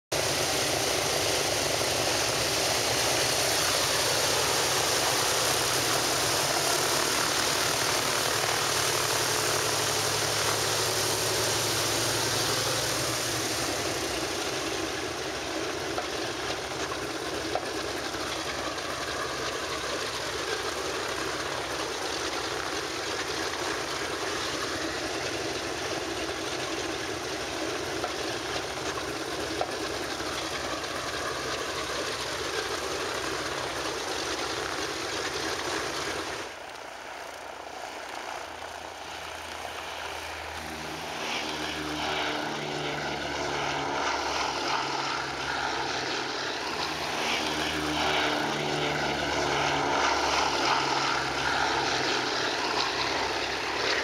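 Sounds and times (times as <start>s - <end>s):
aircraft radial engines droning: 0.1s - 54.0s.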